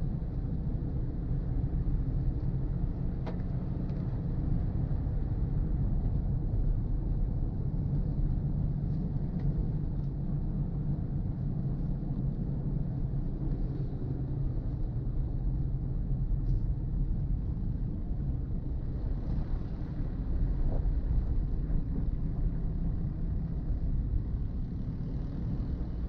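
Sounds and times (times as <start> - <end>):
car driving rumble: 0.1 - 26.0.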